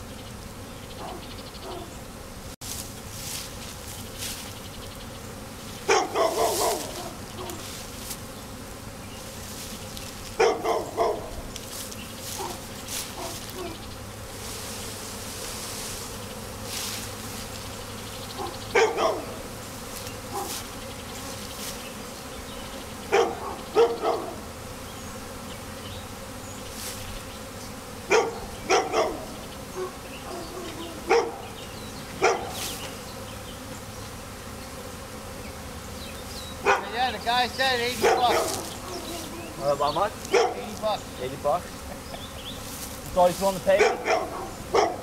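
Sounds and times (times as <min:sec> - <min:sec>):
bee swarm buzzing: 0:00.0 - 0:45.0.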